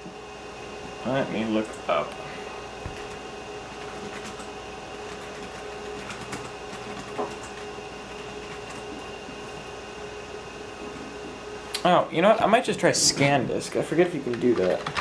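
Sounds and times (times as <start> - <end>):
computer fan and hard drive hum: 0.0 - 15.0.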